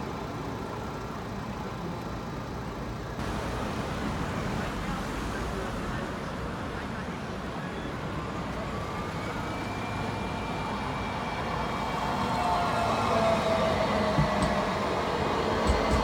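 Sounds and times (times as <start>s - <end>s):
tram rumble: 0.0s - 16.0s.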